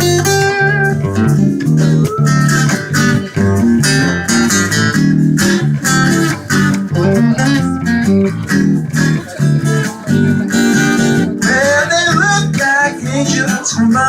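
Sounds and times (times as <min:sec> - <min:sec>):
guitar-led instrumental band: 0:00.0 - 0:14.0.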